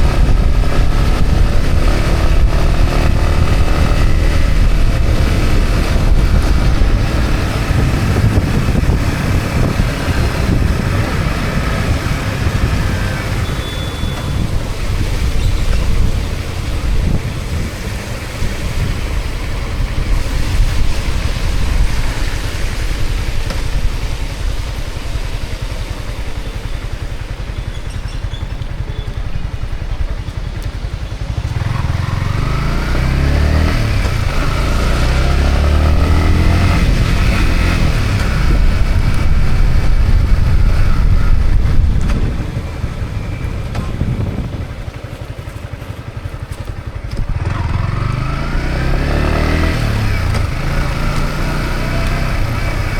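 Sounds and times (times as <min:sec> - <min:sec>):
wind rush: 0:00.0 - 0:27.9, 0:28.6 - 0:52.9
motorcycle engine revving: 0:00.0 - 0:52.9.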